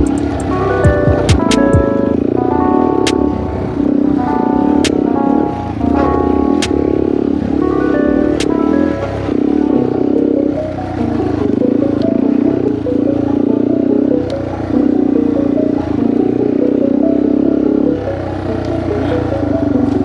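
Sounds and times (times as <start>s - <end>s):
motorcycle engine under load: 0.0s - 20.0s.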